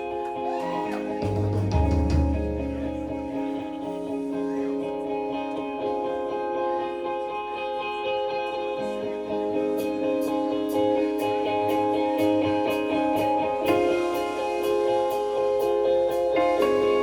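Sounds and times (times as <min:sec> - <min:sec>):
electric guitar notes ringing: 0:00.0 - 0:17.0.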